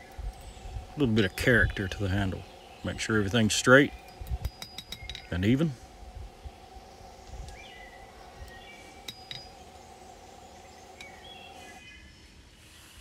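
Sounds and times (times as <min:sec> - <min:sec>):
bird chirps: 0:00.0 - 0:05.8, 0:06.6 - 0:12.9
faint machine hum: 0:00.0 - 0:11.8.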